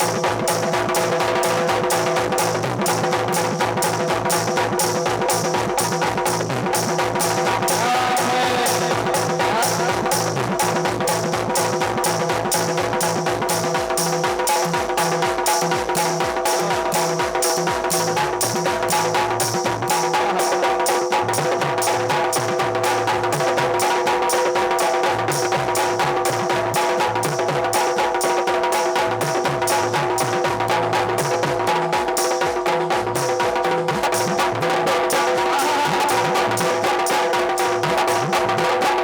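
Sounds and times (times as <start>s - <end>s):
fast even drumming: 0.0s - 39.0s.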